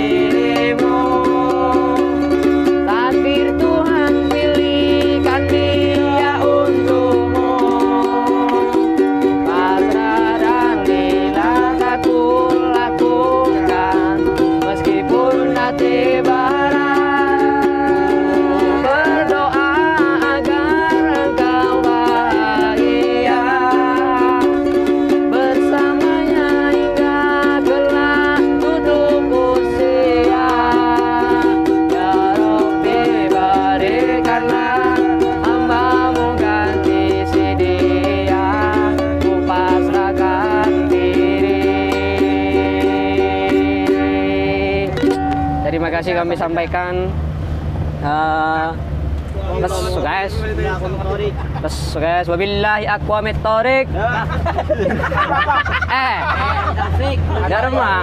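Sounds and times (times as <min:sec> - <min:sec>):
man singing: 0:00.0 - 0:46.8
ukulele strumming: 0:00.0 - 0:47.9.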